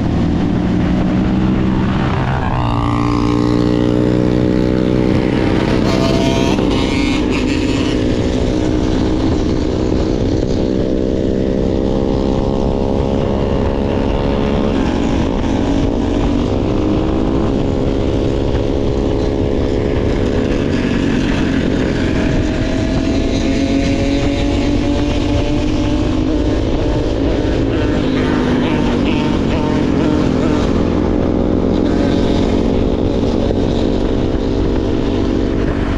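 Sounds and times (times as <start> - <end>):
dirt bike engine running: 0.0 - 35.9
wind rush: 0.0 - 35.9.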